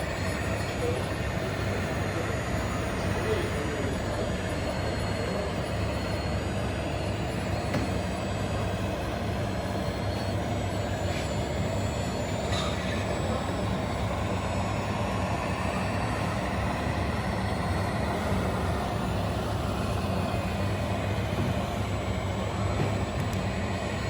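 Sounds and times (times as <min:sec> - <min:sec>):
model trucks running: 0:00.0 - 0:24.0.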